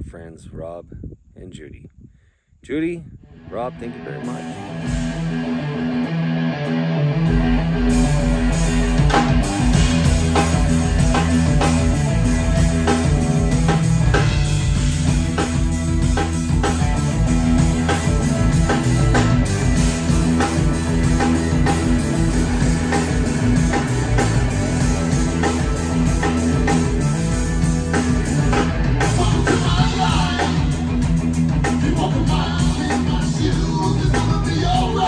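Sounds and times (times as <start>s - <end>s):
guitar-led rock song: 3.3s - 35.0s.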